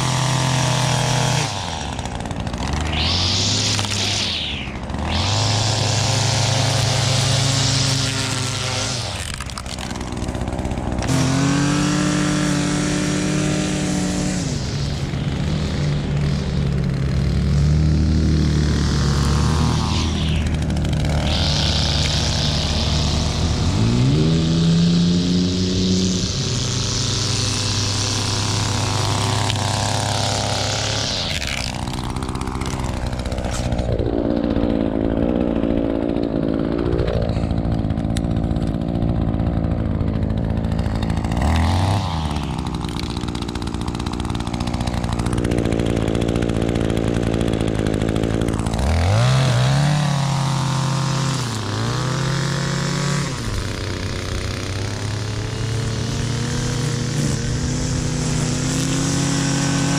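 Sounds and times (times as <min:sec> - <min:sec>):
gas engine revving: 0:00.0 - 0:59.9.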